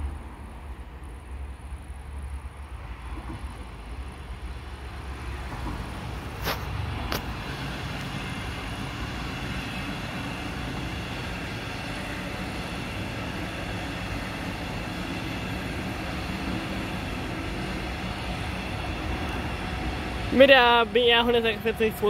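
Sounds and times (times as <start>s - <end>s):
train wheels rushing on rails: 2.2s - 22.0s.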